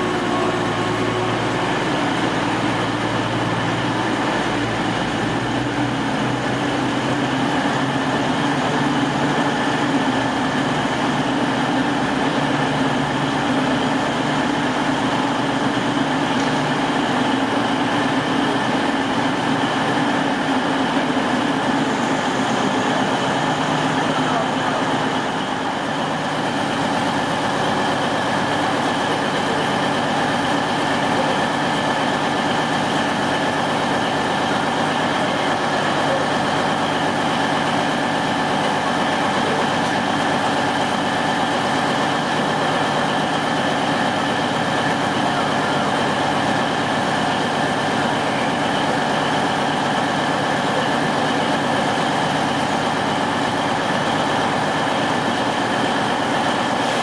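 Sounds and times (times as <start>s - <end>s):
train engine idling: 0.0s - 57.0s.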